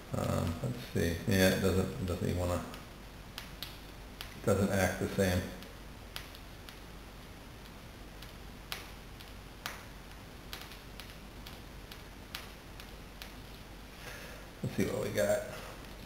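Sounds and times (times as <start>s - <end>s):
electric arc snapping: 0.2s - 13.9s.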